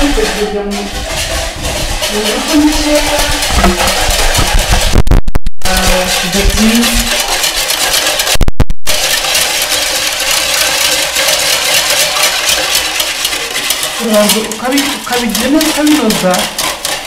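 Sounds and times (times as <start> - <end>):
whisk rattling in plastic bowl: 0.0 - 17.0.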